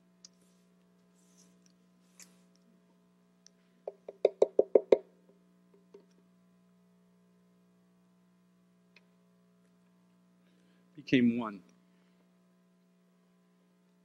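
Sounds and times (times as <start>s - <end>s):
steady mains hum: 0.0s - 14.0s.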